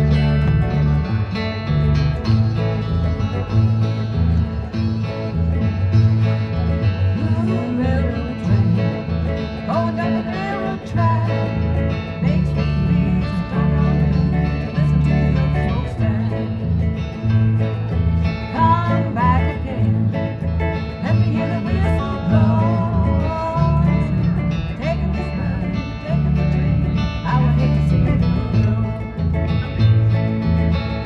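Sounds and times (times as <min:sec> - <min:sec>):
acoustic country guitar: 0:00.0 - 0:31.0.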